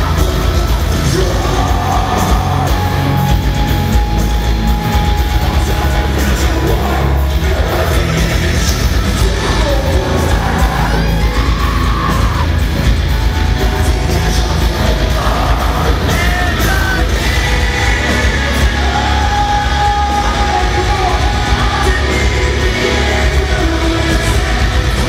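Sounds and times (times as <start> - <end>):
person singing and yelling: 0.0 - 4.1, 4.8 - 25.0
metalcore band playing live: 0.0 - 25.0.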